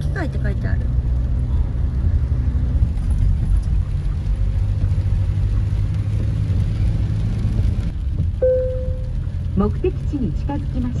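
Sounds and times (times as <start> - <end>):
car engine rumble: 0.0 - 11.0
tyres on a wet road: 0.0 - 11.0.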